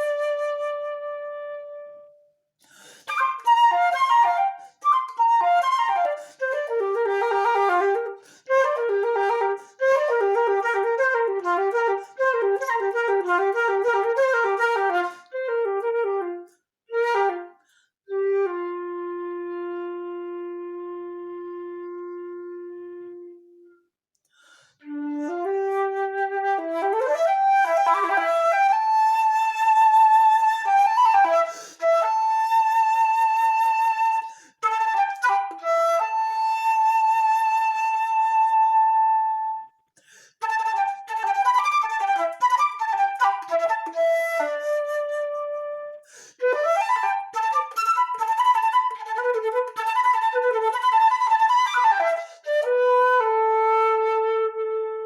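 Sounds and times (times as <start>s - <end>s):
solo flute playing: 0.0s - 2.3s, 3.1s - 23.9s, 24.8s - 55.0s.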